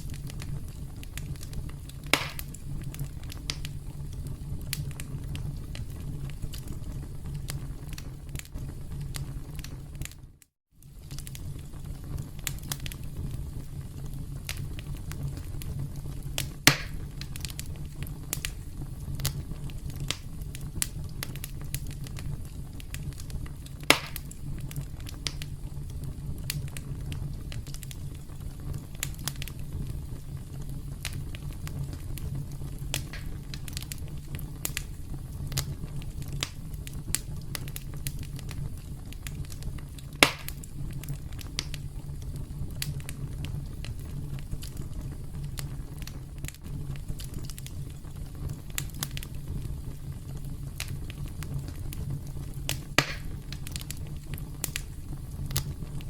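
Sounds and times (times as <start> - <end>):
campfire crackling: 0.0 - 56.0
loud pops of burning wood: 0.0 - 56.0.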